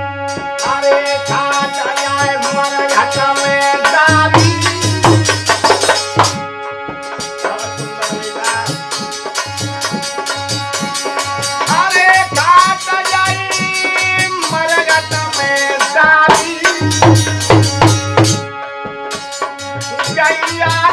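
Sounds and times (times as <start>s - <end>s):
dholak drum rhythm: 0.0s - 20.9s
harmonium chords: 0.0s - 20.9s
man singing: 0.4s - 6.1s, 6.9s - 17.9s, 19.9s - 20.9s.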